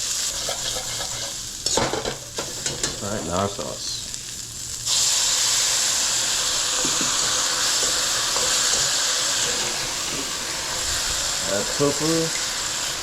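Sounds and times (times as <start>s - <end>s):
sauce sizzling in hot pan: 0.0s - 13.0s.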